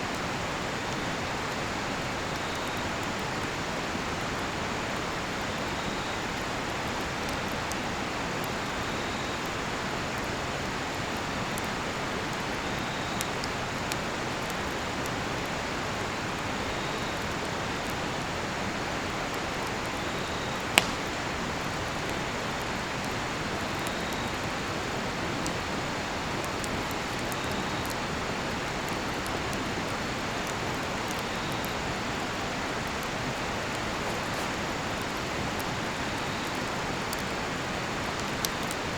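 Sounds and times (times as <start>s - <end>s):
campfire crackling and popping: 0.1s - 38.9s
faint cricket chirps: 1.6s - 3.1s, 3.7s - 13.7s, 14.6s - 18.5s, 19.7s - 38.9s.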